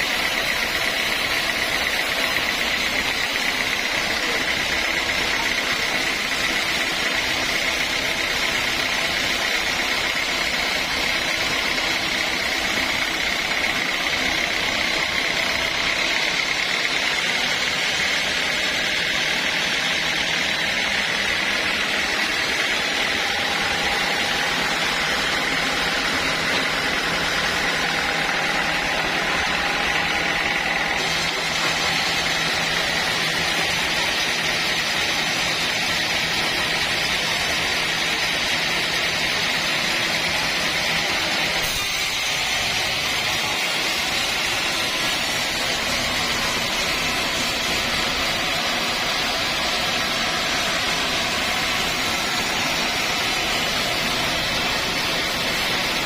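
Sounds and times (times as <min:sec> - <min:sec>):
high mechanical whine: 0:00.0 - 0:56.0
sawmill machinery drone: 0:00.0 - 0:56.0.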